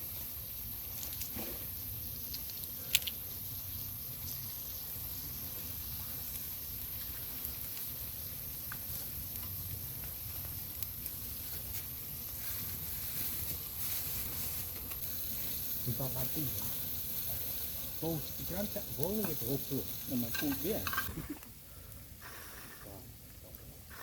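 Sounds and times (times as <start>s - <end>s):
food sizzling over a fire: 0.0s - 22.8s.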